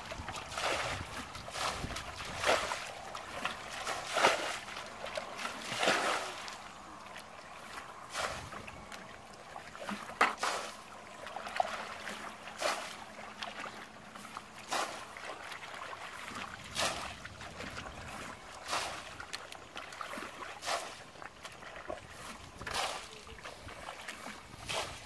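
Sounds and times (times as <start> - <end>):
bucket splashing water: 0.0 - 25.0.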